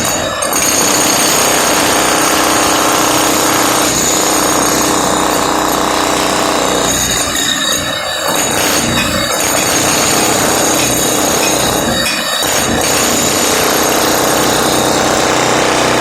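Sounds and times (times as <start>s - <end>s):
hammer drill chiselling floor: 0.0s - 16.0s.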